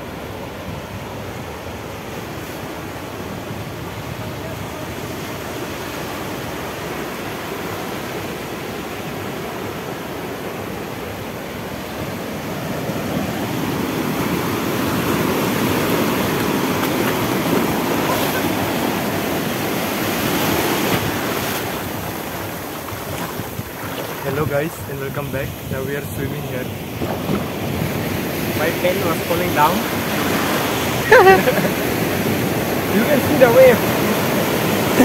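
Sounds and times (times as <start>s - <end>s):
ocean waves rushing: 0.0s - 35.0s.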